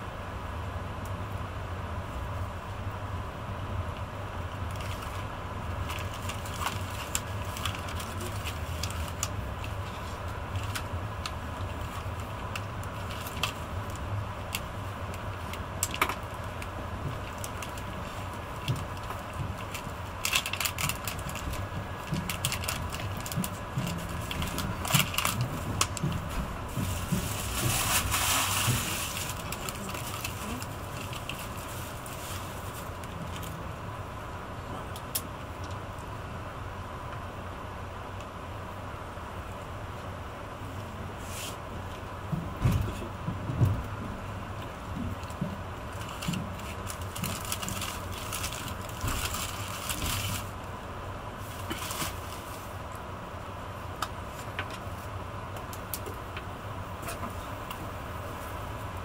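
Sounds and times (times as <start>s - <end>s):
train cabin rumble: 1.7s - 59.0s.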